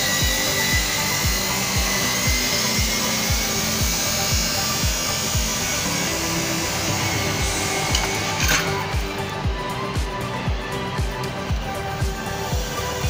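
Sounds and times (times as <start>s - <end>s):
music with kick-drum beat: 0.0s - 13.0s.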